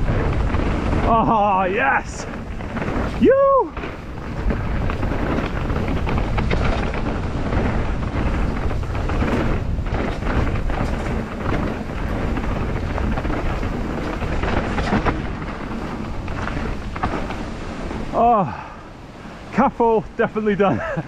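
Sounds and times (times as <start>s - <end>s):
small rattles: 0.0s - 19.5s
bike tyres rolling over ground: 0.0s - 21.0s
wind buffeting microphone: 0.0s - 21.0s.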